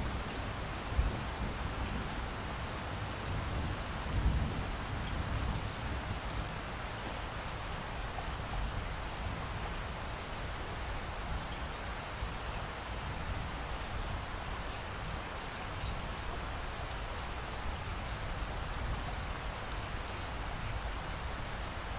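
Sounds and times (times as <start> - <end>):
steady rain: 0.0 - 21.9.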